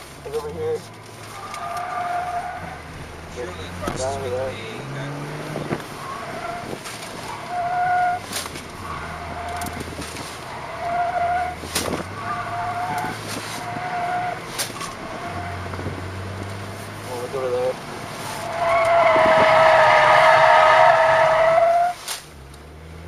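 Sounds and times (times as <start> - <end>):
tyres squealing: 1.2 - 5.2, 5.8 - 15.7, 17.0 - 22.1.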